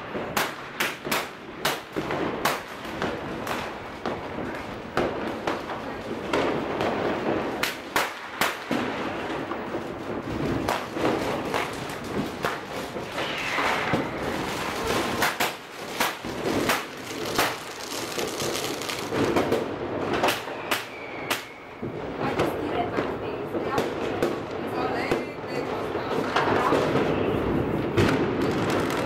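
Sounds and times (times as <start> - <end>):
firecrackers crackling: 0.0 - 29.0
fireworks bangs and cracks: 0.0 - 29.0.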